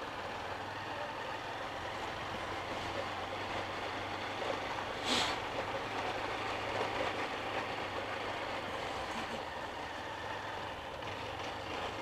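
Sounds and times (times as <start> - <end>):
road noise: 0.0 - 12.0
small motorcycle engine running: 0.0 - 12.0.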